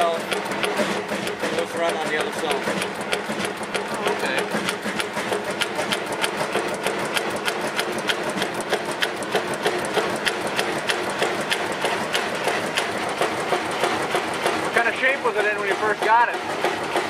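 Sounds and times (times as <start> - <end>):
stationary engine hum: 0.0 - 17.0
valve gear ticking: 0.0 - 17.0.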